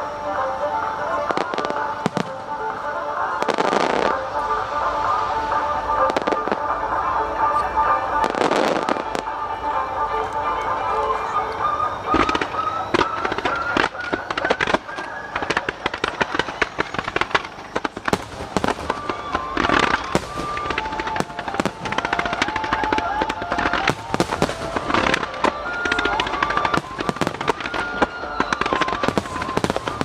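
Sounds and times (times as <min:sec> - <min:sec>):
melodic music: 0:00.0 - 0:16.4, 0:18.0 - 0:30.0
fireworks bangs and crackles: 0:00.0 - 0:30.0.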